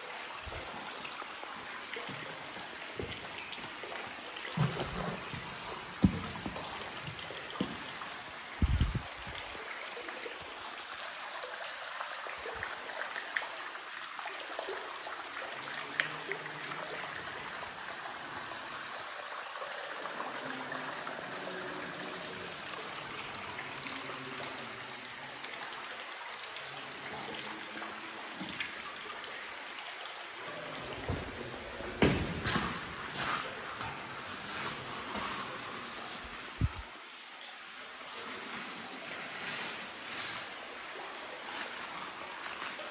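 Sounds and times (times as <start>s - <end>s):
water trickling and dripping: 0.0s - 42.9s.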